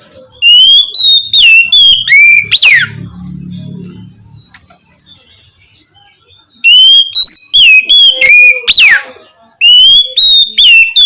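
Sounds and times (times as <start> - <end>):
bird singing whistled notes: 0.1 - 11.0.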